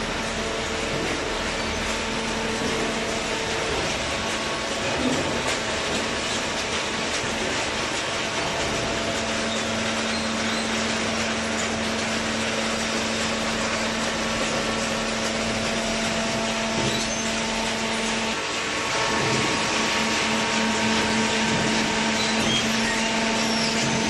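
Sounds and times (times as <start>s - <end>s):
hydraulic baler running: 0.0s - 24.0s.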